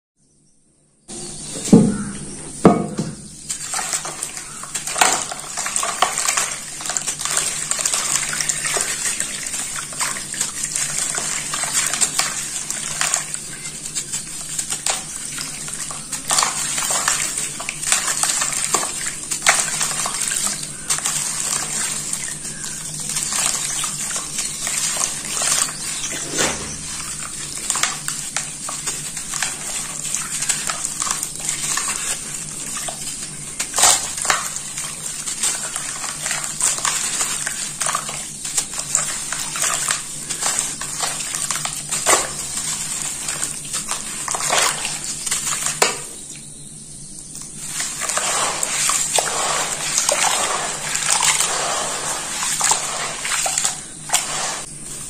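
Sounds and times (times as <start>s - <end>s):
dirt crumbling into water: 3.5s - 46.2s, 47.5s - 55.0s.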